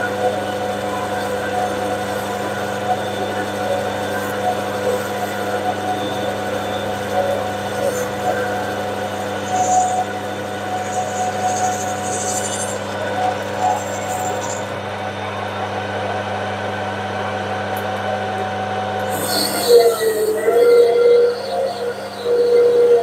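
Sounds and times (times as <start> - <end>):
loud wavering tone: 0.0 - 23.0
metal lathe humming and whining: 0.0 - 23.0.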